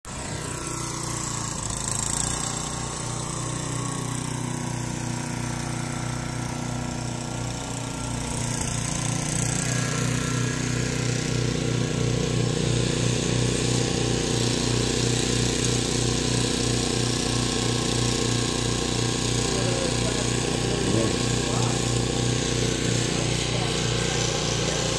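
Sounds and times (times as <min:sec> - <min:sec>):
snowblower engine running: 0:00.1 - 0:24.9.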